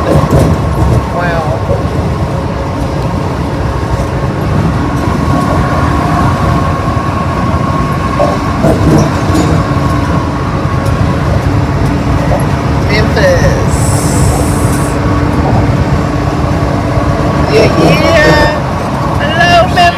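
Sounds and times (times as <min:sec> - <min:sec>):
road and tyre rumble: 0:00.0 - 0:19.9.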